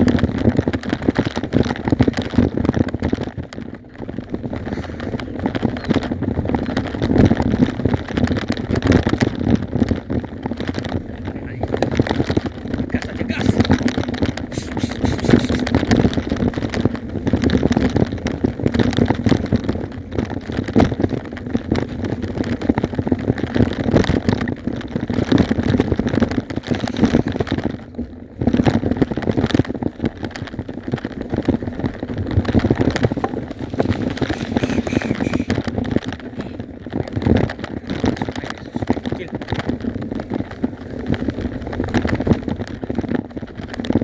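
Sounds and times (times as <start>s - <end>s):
motorcycle engine hum: 0.0s - 44.0s
tyres rumbling on dirt track: 0.0s - 44.0s.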